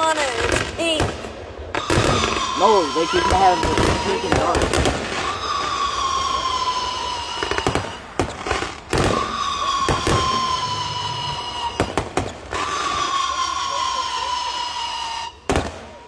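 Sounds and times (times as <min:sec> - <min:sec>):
fireworks bangs and crackles: 0:00.0 - 0:16.0
firework whistle falling in pitch: 0:01.7 - 0:16.0.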